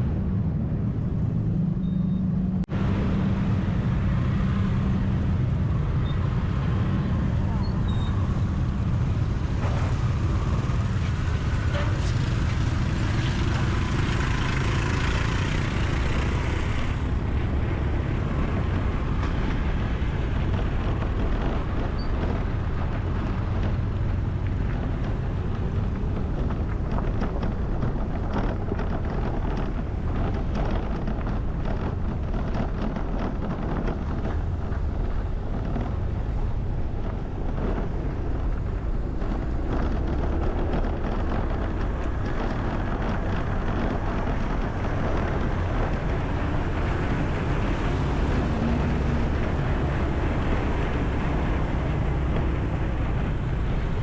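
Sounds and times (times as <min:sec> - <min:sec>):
road traffic rumble: 0:00.0 - 0:54.0
vehicles passing: 0:00.0 - 0:54.0.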